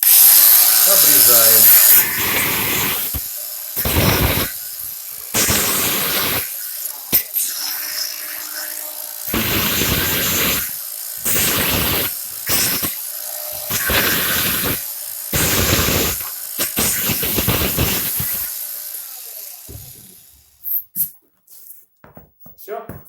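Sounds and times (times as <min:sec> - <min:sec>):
power tool cutting screw: 0:00.0 - 0:21.1.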